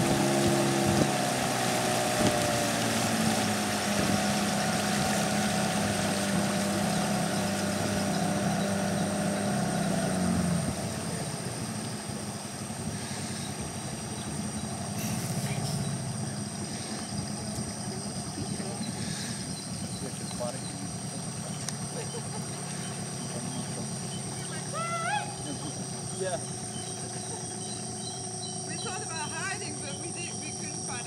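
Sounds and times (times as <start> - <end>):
boat engine idling: 0.0 - 31.0.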